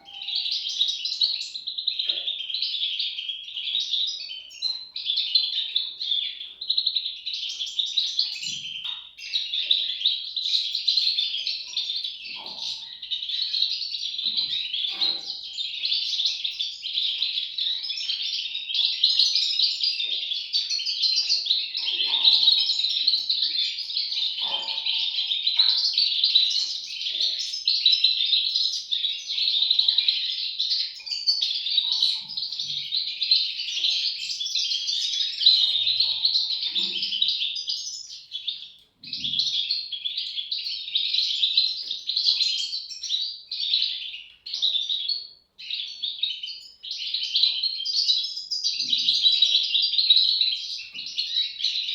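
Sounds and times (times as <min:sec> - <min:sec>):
bird chicks chirping: 0:00.0 - 0:51.9.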